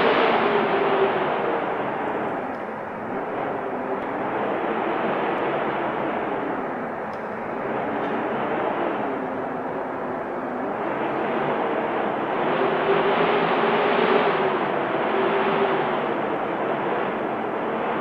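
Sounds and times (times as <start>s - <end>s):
wind blowing in gusts: 0.0s - 18.0s.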